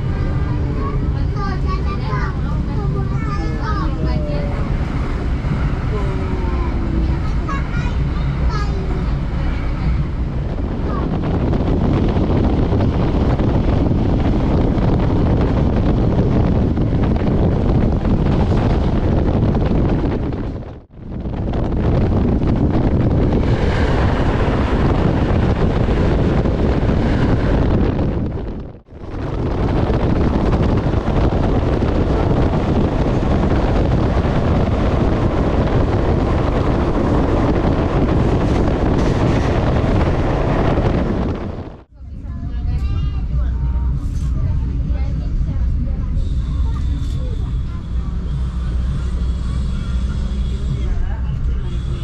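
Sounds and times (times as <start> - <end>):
train rumbling on rails: 0.0 - 52.0
wind buffeting microphone: 0.0 - 52.0.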